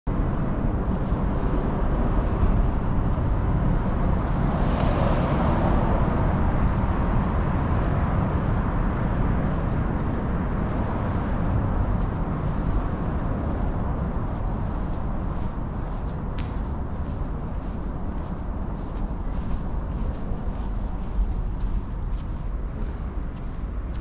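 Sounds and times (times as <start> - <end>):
outdoor background rumble: 0.0 - 24.0.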